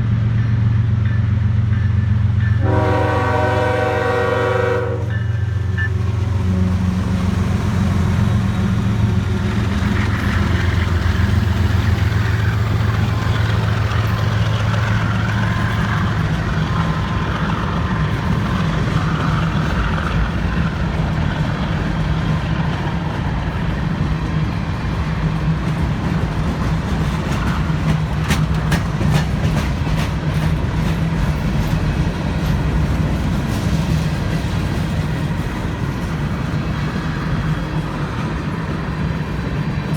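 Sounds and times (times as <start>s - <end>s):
diesel locomotive drone: 0.0s - 39.9s
freight cars rolling: 5.4s - 39.9s.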